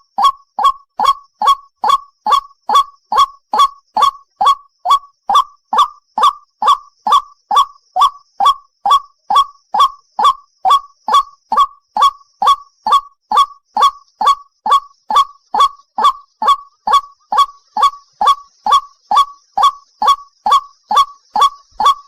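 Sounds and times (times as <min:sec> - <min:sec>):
waterhen honking call: 0:00.0 - 0:22.0.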